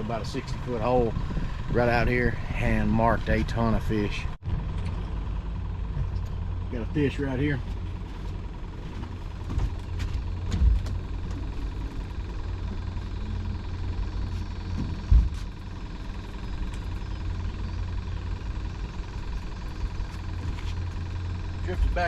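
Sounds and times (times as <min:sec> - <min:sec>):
boat motor idling: 0:00.0 - 0:22.0.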